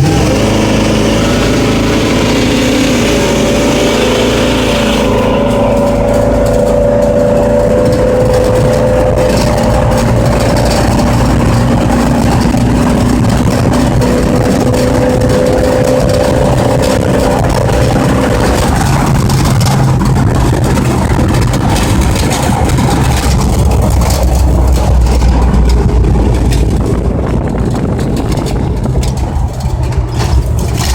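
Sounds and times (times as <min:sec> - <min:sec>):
pickup truck engine running hard: 0:00.0 - 0:30.9
crackling: 0:00.1 - 0:30.9.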